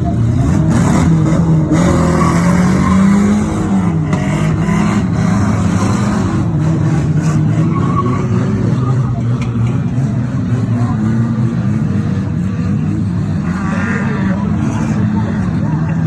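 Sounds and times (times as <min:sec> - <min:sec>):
car engines revving: 0:00.0 - 0:16.0
tyres skidding: 0:00.0 - 0:16.0.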